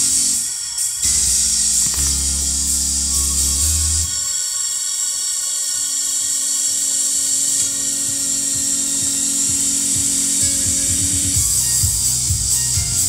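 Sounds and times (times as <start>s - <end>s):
tape music with high whine: 0.0s - 13.0s.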